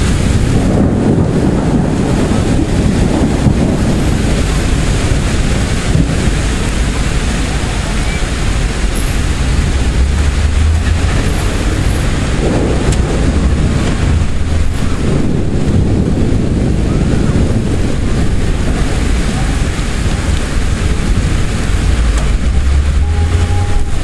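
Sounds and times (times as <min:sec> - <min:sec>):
heavy rain: 0:00.0 - 0:24.0
strong wind: 0:00.0 - 0:24.0
wind buffeting microphone: 0:00.0 - 0:24.0.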